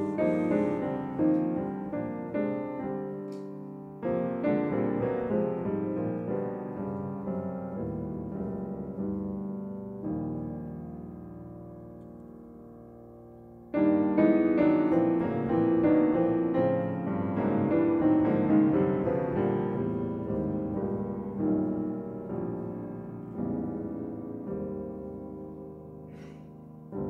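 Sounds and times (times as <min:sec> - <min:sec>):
solo jazz piano: 0:00.0 - 0:27.0.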